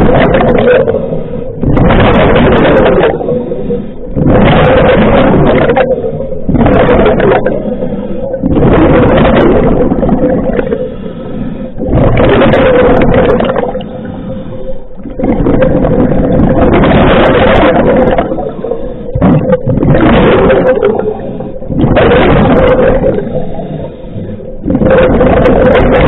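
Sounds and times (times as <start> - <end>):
diver exhaling bubbles: 0.0 - 26.0.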